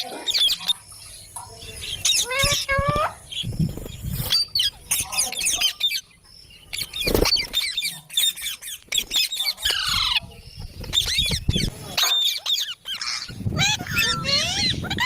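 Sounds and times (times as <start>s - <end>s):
parrots squawking and chattering: 0.0s - 15.0s.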